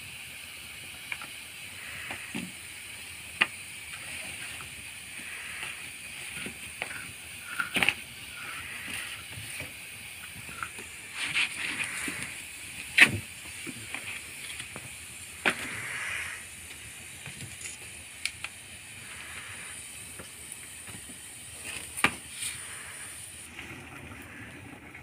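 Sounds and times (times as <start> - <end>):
wood fire hissing and crackling: 0.0 - 25.0.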